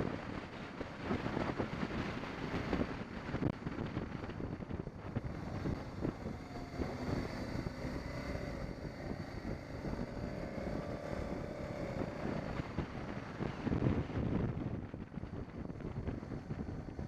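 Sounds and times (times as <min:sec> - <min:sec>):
motorcycle engine hum: 0:00.0 - 0:17.0
wind buffeting microphone: 0:00.0 - 0:17.0.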